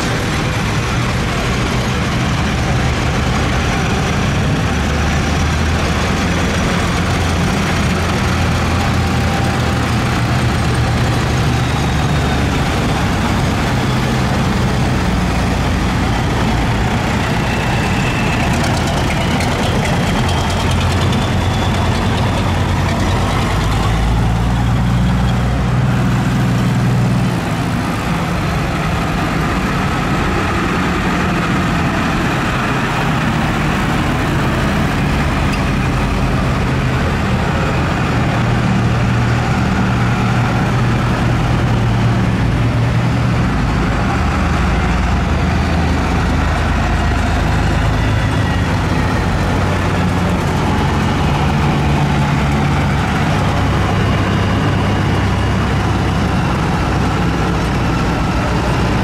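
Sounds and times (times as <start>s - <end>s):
tractor engines passing: 0.0s - 59.0s.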